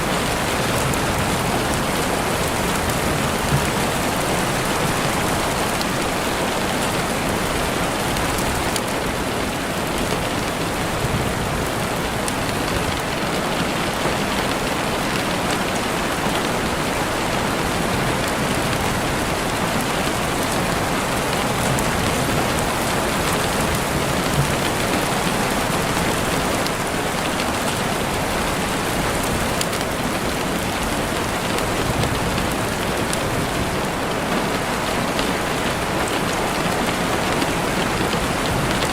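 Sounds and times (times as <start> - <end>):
heavy rain on a window: 0.0 - 38.9.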